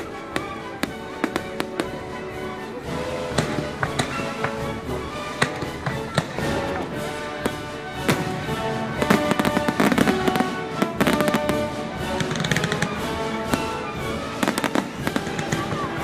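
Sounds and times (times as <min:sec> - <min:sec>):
fireworks bangs and crackles: 0:00.0 - 0:16.0
music with sustained notes: 0:00.0 - 0:16.0.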